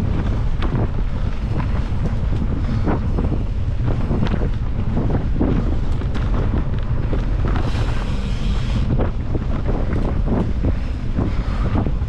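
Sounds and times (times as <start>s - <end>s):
bike rattling and knocking: 0.0s - 12.0s
bike tyre noise: 0.0s - 12.0s
wind buffeting microphone: 0.0s - 12.0s.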